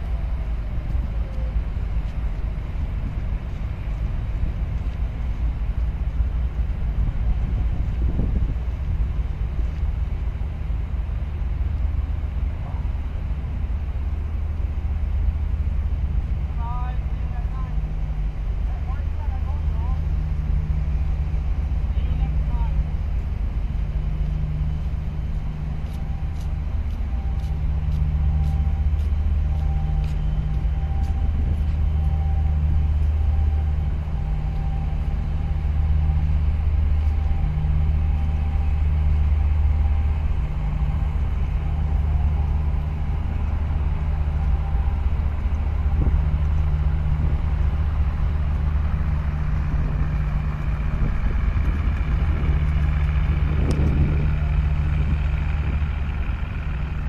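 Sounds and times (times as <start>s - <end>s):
ship engines droning: 0.0s - 57.0s
tug boat engine: 0.0s - 57.0s.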